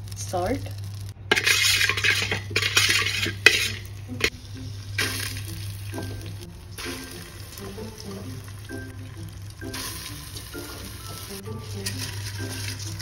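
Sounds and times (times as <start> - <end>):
spices sizzling in butter: 0.0 - 13.0.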